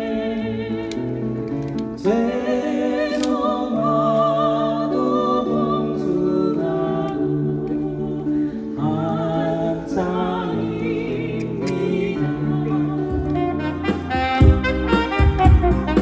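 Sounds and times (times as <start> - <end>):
person singing slow song: 0.0 - 14.4
acoustic guitar: 0.0 - 16.0.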